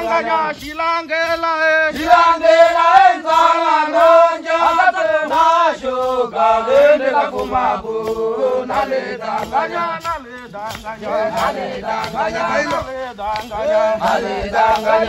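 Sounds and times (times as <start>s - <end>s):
group singing a chant: 0.0s - 15.0s.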